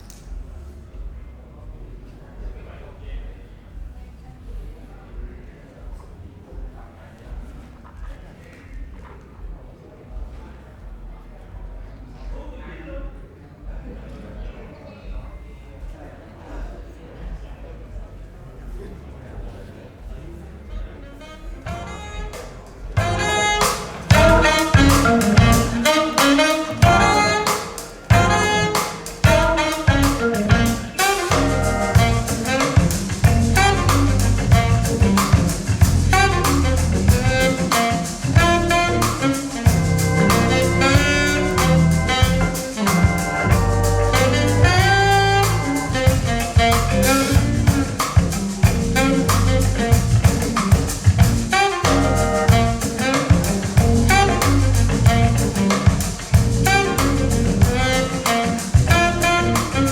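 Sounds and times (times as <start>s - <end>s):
jazz with saxophone and drums: 0.0s - 59.9s.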